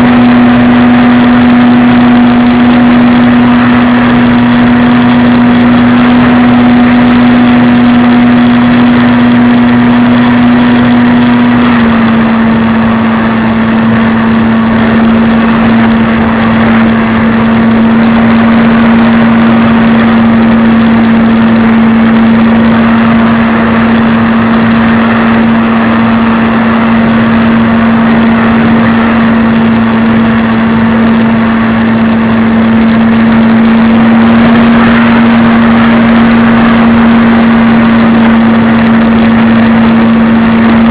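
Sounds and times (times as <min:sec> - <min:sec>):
model airplane motor running: 0:00.0 - 0:40.9
rushing air: 0:00.0 - 0:40.9.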